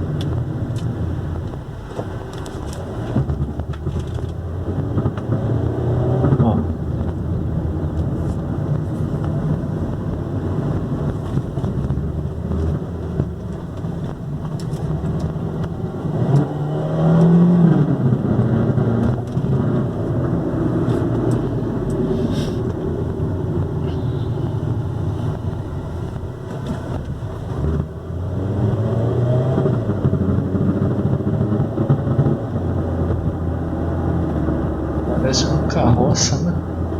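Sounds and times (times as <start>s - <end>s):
car engine running: 0.0s - 28.8s, 29.5s - 36.9s.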